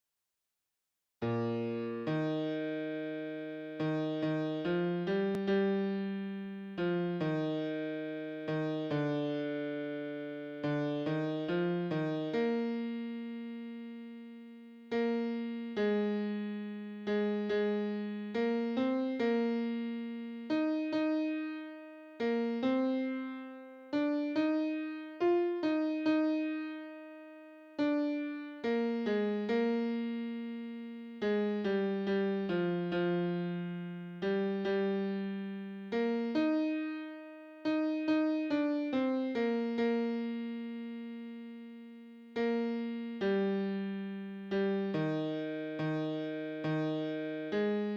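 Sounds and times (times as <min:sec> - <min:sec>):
piano melody single notes: 0:01.2 - 0:47.9.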